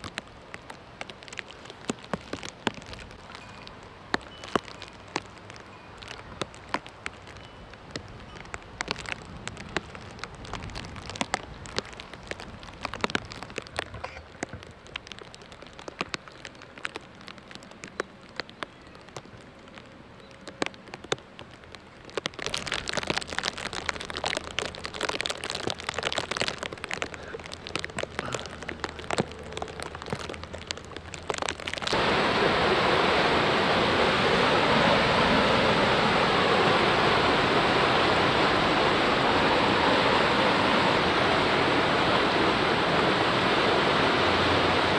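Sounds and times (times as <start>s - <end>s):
floodwater rushing: 0.0s - 44.9s
raindrops ticking on surface: 0.0s - 44.9s.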